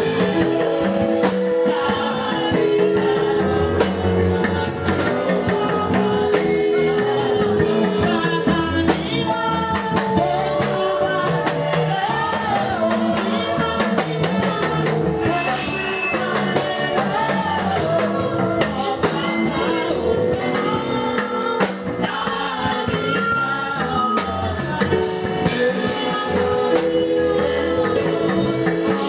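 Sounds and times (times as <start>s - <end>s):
person singing: 0.0s - 29.0s
worship band playing: 0.0s - 29.0s.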